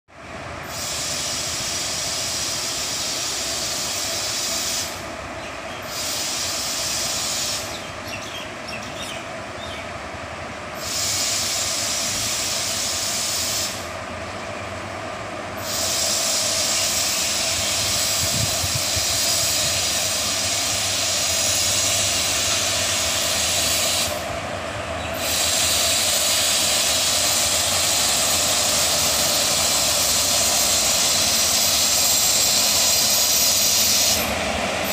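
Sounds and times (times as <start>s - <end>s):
cooling blowers hiss and whine: 0.1s - 34.9s
electric locomotive moving slowly: 0.1s - 34.9s.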